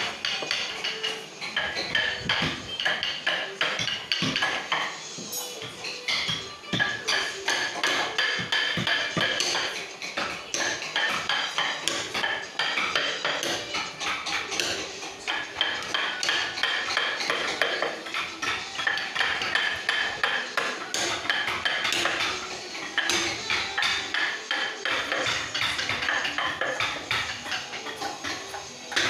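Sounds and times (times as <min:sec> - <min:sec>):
hammers tapping on chisels: 0:00.0 - 0:29.0.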